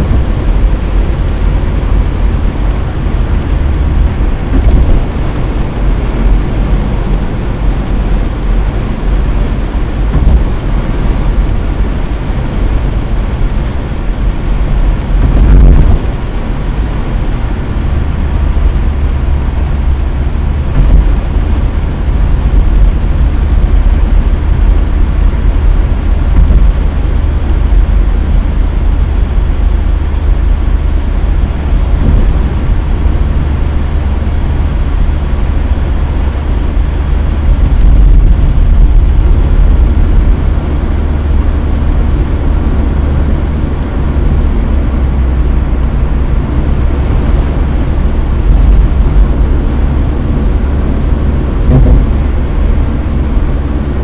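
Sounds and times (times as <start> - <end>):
car road rumble from inside: 0.0 - 54.0.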